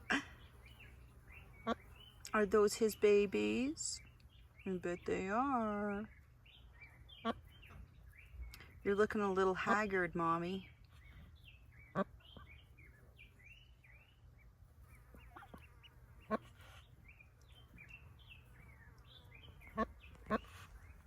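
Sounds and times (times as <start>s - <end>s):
ducklings peeping: 0.0s - 9.9s, 10.5s - 21.0s.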